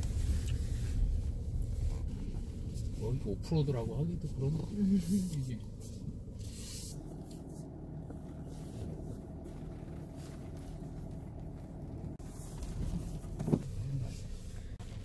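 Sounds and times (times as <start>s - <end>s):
engine and tyre hum on gravel: 0.0s - 15.0s.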